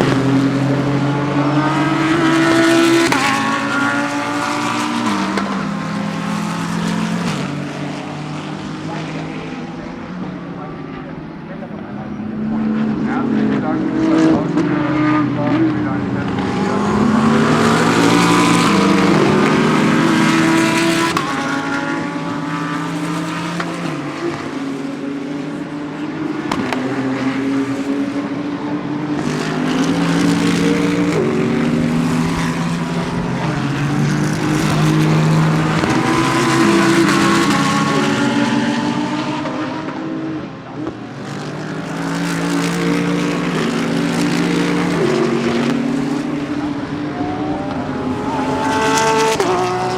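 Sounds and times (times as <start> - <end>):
race car engines shifting gears: 0.0 - 49.9.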